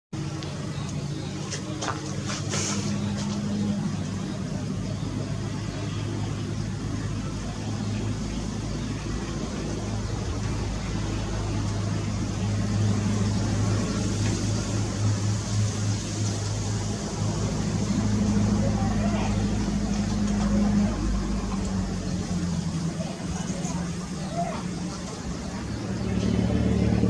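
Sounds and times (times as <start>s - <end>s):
low engine-like hum: 0.2s - 27.0s.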